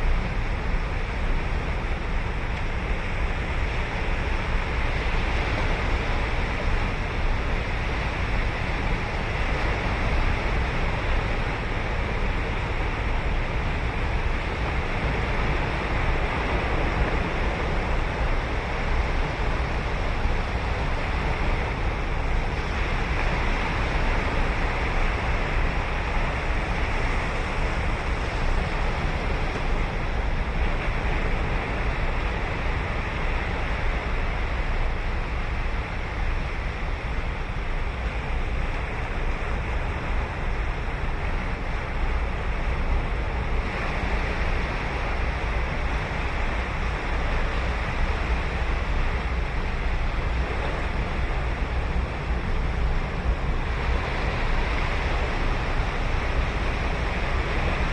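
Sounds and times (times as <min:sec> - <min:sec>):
ocean surf breaking on beach: 0:00.0 - 0:57.9
wind on microphone: 0:00.0 - 0:57.9.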